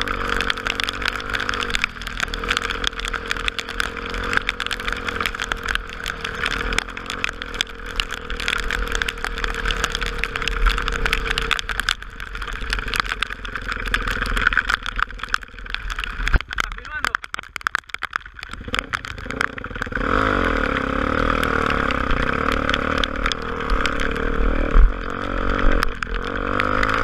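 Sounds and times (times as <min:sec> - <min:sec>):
motorcycle engine running: 0:00.0 - 0:16.1, 0:18.3 - 0:27.0
wind rushing with crackling noise: 0:00.0 - 0:27.0.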